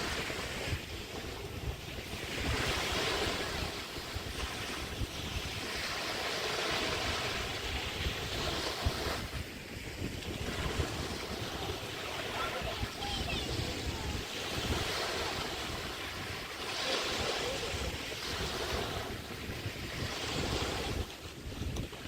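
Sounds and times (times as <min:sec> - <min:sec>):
waves washing onto beach: 0:00.0 - 0:22.0
wind rumbling on microphone: 0:00.0 - 0:22.0.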